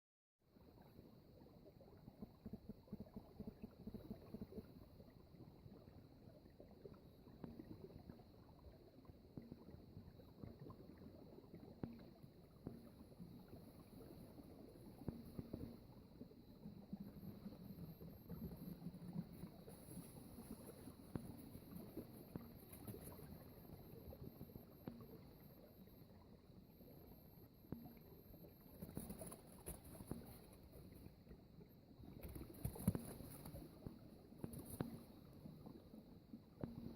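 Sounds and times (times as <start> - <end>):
water trickling and gurgling: 0.5 - 36.9
water drips and plinks: 0.7 - 36.9.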